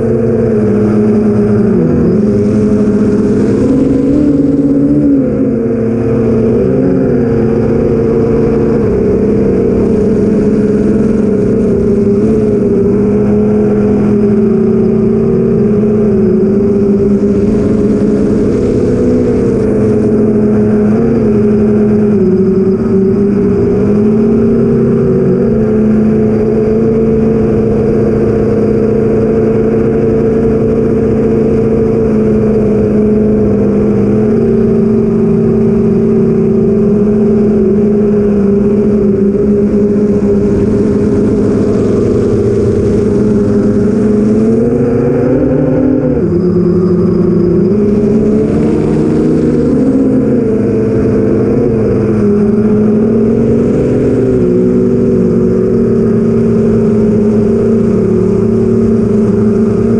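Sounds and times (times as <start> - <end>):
drone motors buzzing whine: 0.0 - 59.9.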